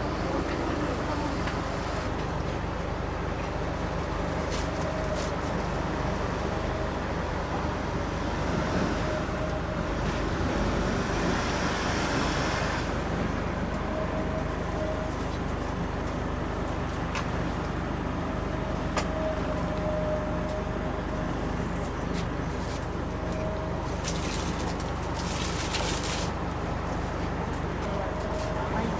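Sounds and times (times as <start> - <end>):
engine humming: 0.0 - 28.9
traffic noise: 0.0 - 28.9.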